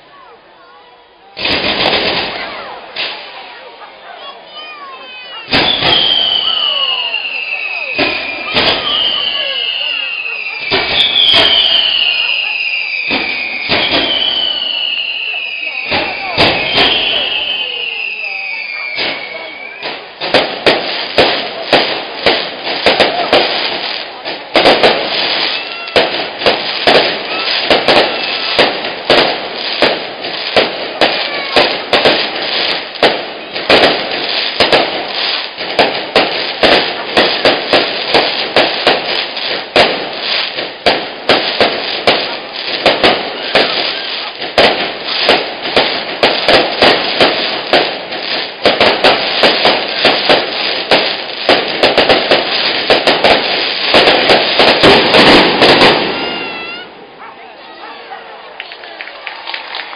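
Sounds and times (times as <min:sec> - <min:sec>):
fireworks bursts and bangs: 0:00.0 - 0:59.9.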